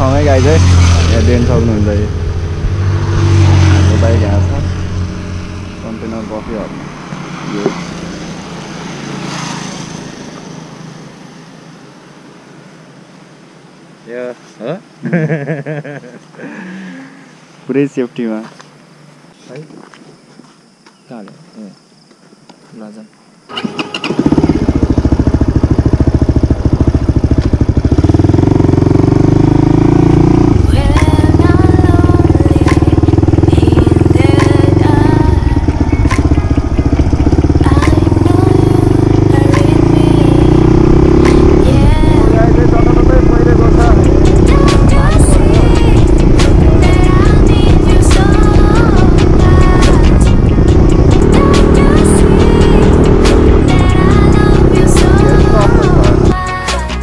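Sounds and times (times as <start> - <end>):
motorcycle passing: 0.0 - 13.7, 23.5 - 57.0
low engine hum: 0.0 - 13.8, 23.6 - 57.0.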